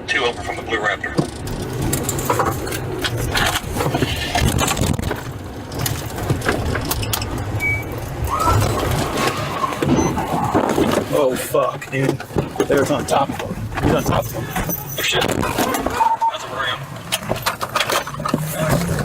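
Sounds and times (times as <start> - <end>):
car engine and road rumble: 0.0 - 19.0
knocks and rattles: 1.1 - 7.6, 8.4 - 16.0, 17.0 - 19.0.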